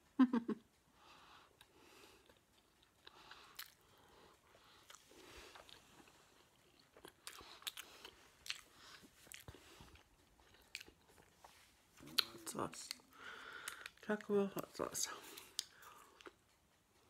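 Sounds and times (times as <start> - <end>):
chewing with wet mouth clicks: 1.6 - 11.4, 12.0 - 16.5.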